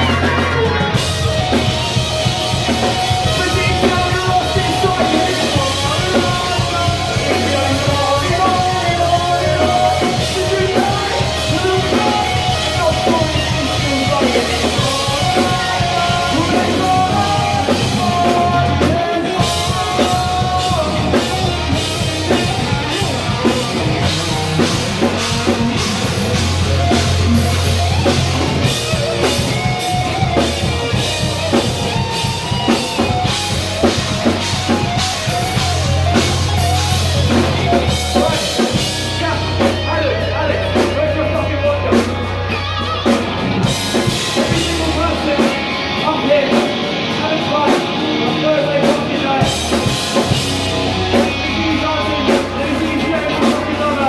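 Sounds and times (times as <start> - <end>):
person singing: 0.0 - 1.9, 2.5 - 54.0
bass guitar: 0.0 - 54.0
distorted electric guitars: 0.0 - 54.0
drum kit: 0.0 - 54.0.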